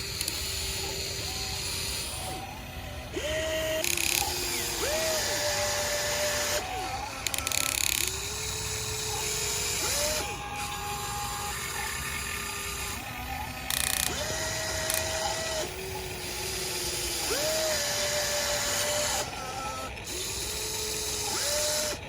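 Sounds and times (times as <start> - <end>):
toy excavator motors whining: 0.0 - 22.0.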